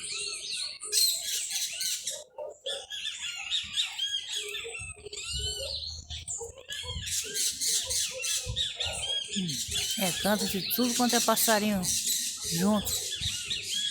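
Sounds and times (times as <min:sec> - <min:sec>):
small birds chirping and whistling: 0:00.0 - 0:13.9.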